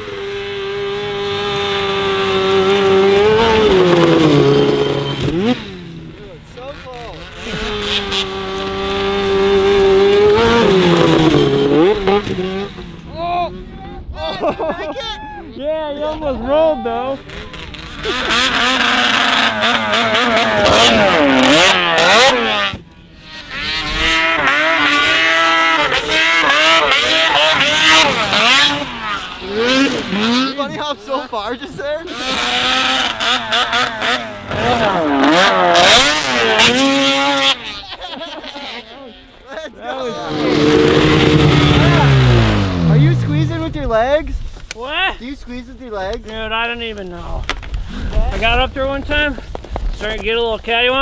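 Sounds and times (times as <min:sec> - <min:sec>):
snowmobile engine revving: 0:00.0 - 0:15.0, 0:16.0 - 0:45.6.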